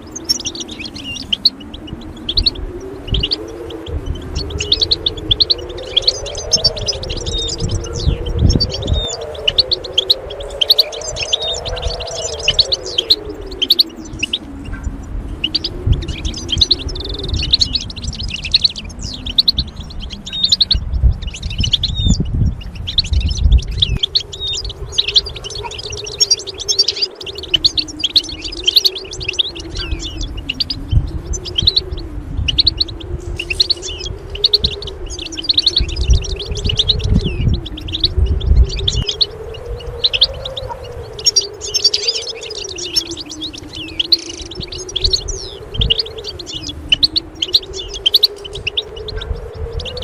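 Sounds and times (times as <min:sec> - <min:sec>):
finch twittering song: 0:00.0 - 0:50.0
low wavering tone: 0:00.0 - 0:50.0.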